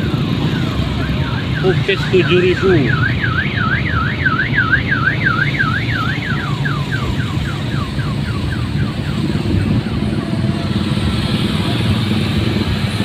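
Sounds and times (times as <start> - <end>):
vehicle alarm warbling and chirping: 0.4 - 12.0.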